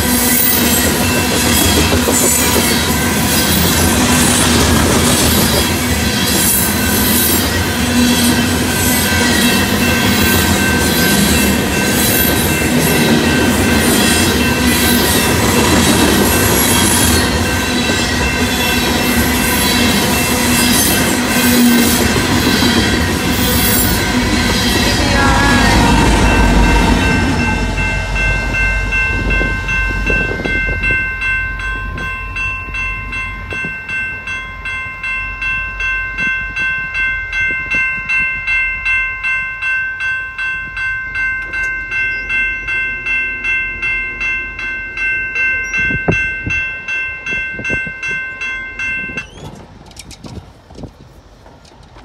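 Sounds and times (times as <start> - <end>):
railroad crossing bell ringing: 0.0 - 49.6
freight train rumble: 0.0 - 52.0.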